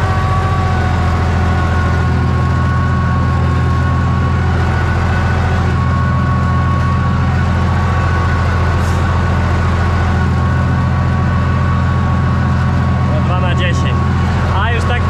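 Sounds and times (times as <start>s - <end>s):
tractor diesel engine drone: 0.0s - 15.0s.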